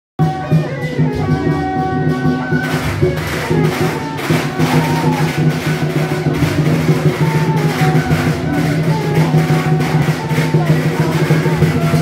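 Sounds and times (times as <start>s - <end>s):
cymbals: 0.2s - 12.0s
drum: 0.2s - 12.0s.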